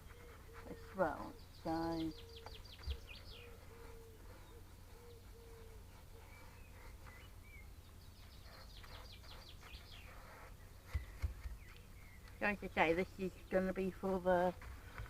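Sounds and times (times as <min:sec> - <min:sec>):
bird chirps: 0:00.0 - 0:12.4
low background hum: 0:00.0 - 0:15.0.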